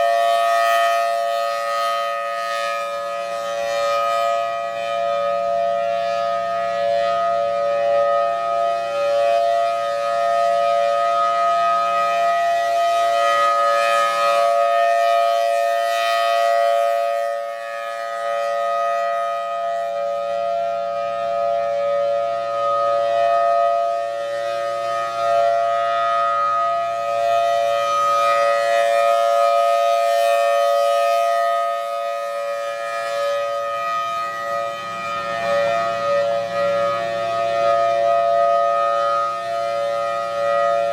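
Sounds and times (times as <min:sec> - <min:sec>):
rotating storm siren: 0:00.0 - 0:40.9.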